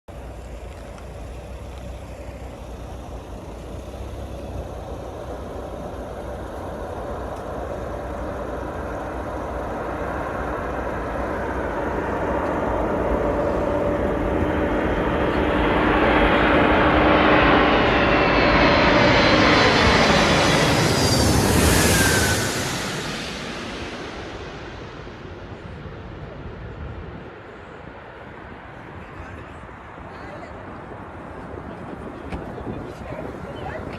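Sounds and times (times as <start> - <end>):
engine approaching: 0.1 - 33.9.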